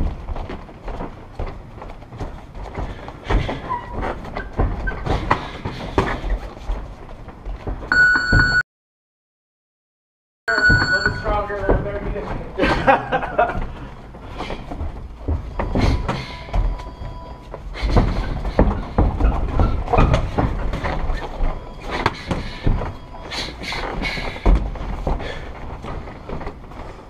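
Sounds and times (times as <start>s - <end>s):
footwork on ring canvas: 0.0s - 8.6s, 10.5s - 27.0s.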